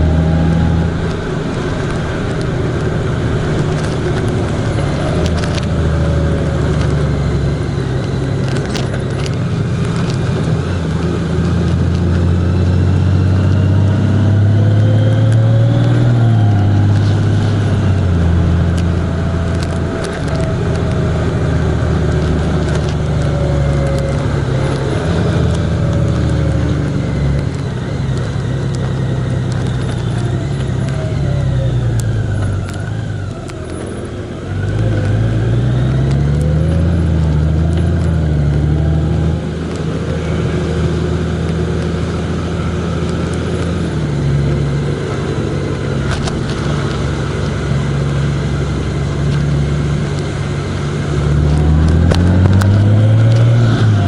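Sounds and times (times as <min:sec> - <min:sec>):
road and wind noise: 0:00.0 - 0:54.0
vehicle engine revving: 0:00.0 - 0:54.0.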